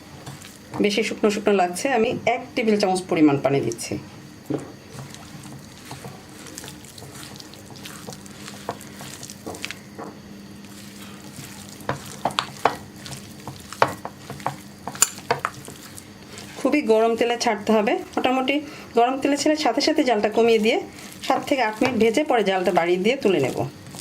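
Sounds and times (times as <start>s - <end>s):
wet squelches of hand mixing: 0.0s - 1.4s, 4.8s - 24.0s.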